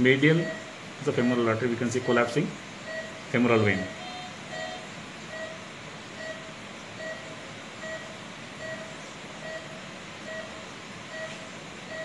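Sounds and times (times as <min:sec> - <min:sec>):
patient monitor beeping: 0:00.0 - 0:12.0
room noise hiss: 0:00.0 - 0:12.0.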